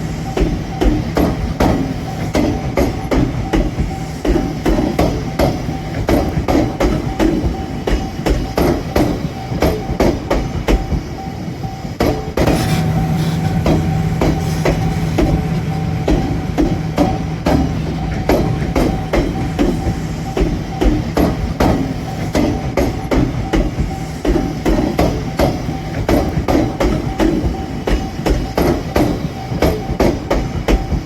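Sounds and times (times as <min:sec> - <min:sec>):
level-crossing alarm ringing: 0:00.0 - 0:31.0
train low hum: 0:00.0 - 0:31.0.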